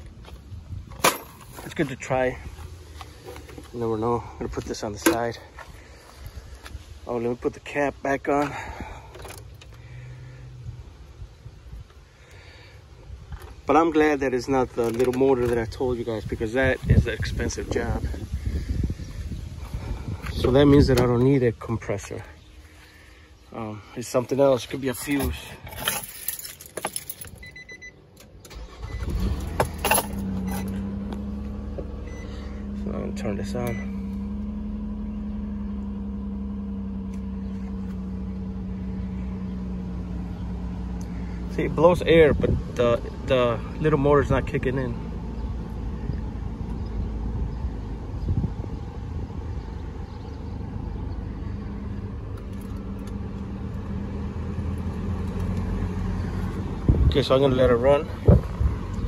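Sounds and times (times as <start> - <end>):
car engine cranking and idling: 0.0 - 59.0.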